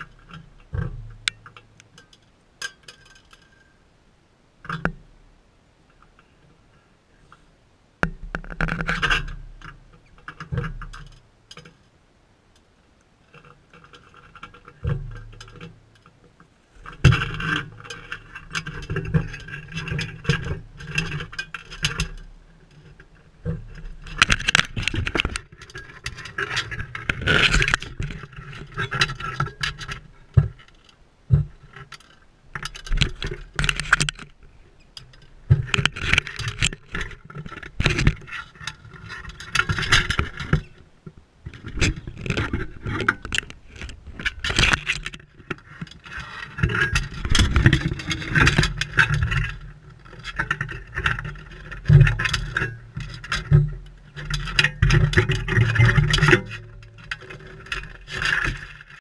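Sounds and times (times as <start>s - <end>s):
beaks and claws scraping on camera: 8.3s - 11.9s, 13.2s - 59.0s.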